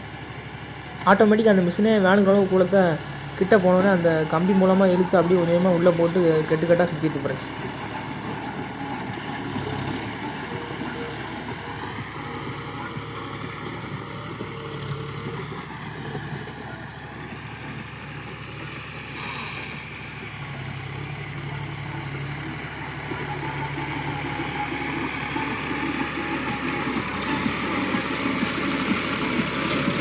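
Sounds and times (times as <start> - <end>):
straw baler working: 0.0 - 30.0
tractor engine running: 0.0 - 30.0.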